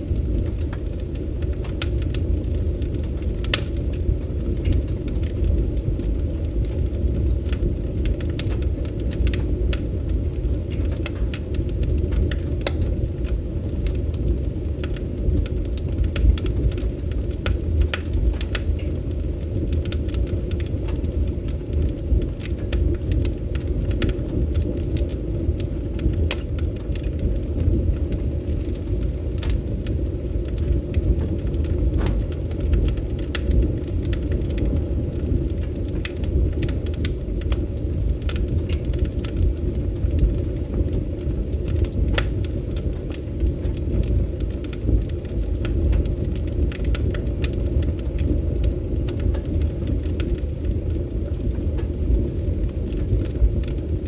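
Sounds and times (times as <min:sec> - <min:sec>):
fire popping and snapping: 0:00.0 - 0:54.0
low rumble of burning: 0:00.0 - 0:54.0
wood fire crackling: 0:00.0 - 0:54.0.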